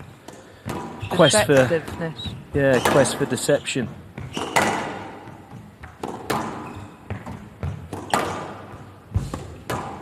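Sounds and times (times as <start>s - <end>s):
squash ball hits: 0.3s - 3.4s, 4.2s - 10.0s.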